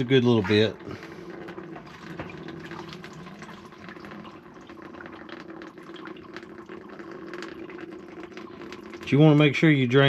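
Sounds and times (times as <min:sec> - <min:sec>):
fuel pouring into a plastic pan: 0:00.0 - 0:10.0.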